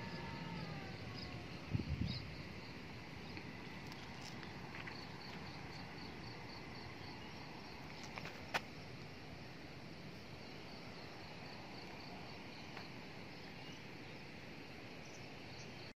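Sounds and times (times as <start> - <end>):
cricket chirping: 0.0 - 15.9.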